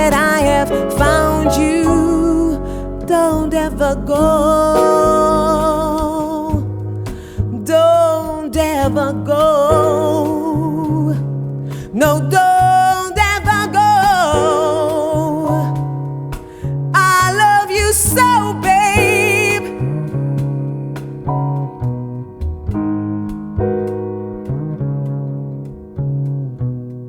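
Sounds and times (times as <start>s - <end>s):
slow ballad singing: 0.0s - 21.8s
guitar and bass: 0.0s - 27.0s.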